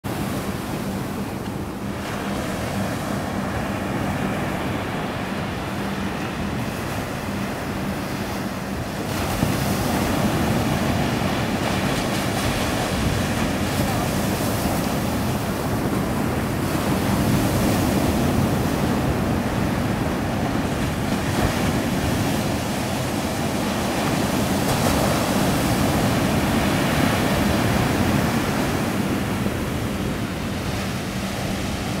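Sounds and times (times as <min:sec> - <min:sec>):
surf breaking on beach: 0:00.1 - 0:32.0
wind noise on microphone: 0:00.1 - 0:32.0.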